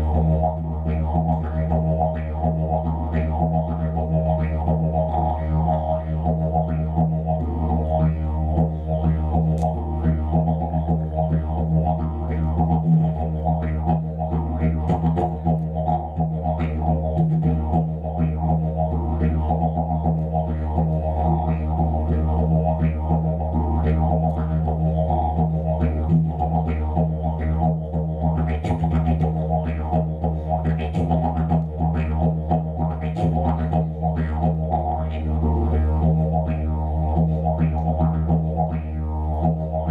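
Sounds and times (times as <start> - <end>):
didgeridoo drone: 0.0 - 39.9.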